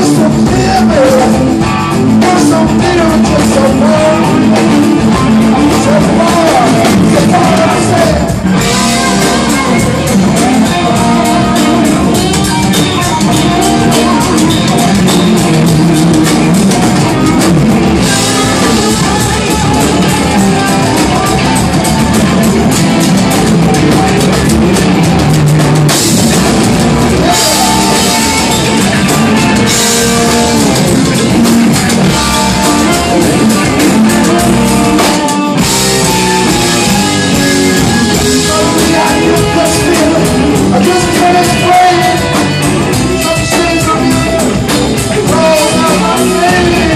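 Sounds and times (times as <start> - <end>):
bass guitar: 0.0 - 46.9
drum kit: 0.0 - 46.9
electric guitars: 0.0 - 46.9.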